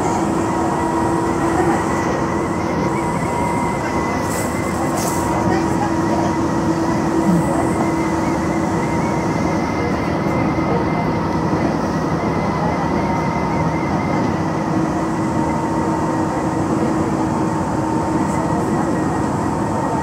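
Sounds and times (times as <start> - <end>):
train motor whine: 0.0 - 20.0
train wheels rumbling on rails: 0.0 - 20.0.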